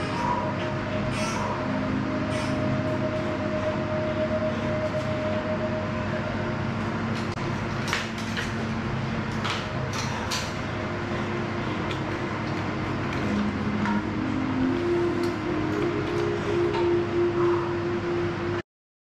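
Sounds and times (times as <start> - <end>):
ambient background music: 0.0 - 18.6.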